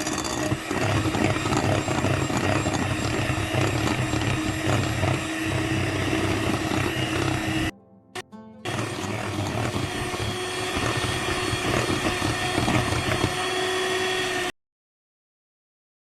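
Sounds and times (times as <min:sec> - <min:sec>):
small electric motor running: 0:00.0 - 0:07.7, 0:08.7 - 0:14.5.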